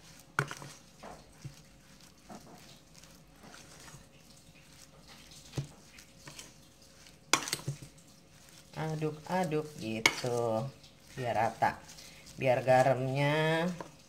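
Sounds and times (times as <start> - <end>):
hands squishing minced meat: 0.0 - 14.0.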